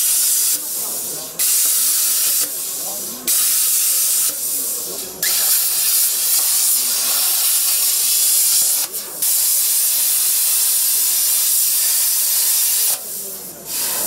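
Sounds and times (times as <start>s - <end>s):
plasma torch hissing: 0.0s - 14.0s.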